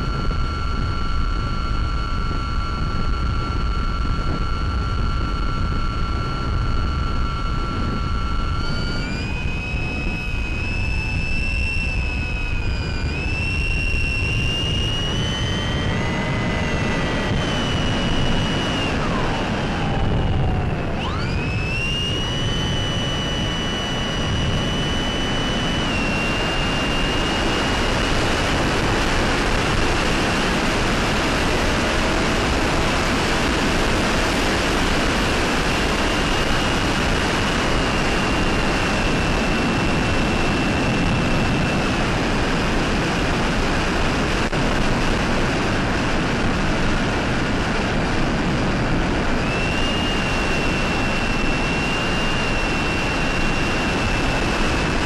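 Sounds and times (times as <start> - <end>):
electric motor and propeller whine: 0.0 - 55.0
wind noise: 0.0 - 55.0.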